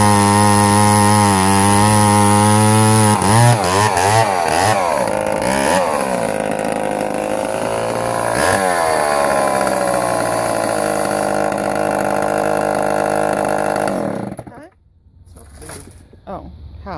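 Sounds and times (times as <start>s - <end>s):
chainsaw engine running: 0.0s - 14.7s
chainsaw engine winding down: 0.0s - 14.7s.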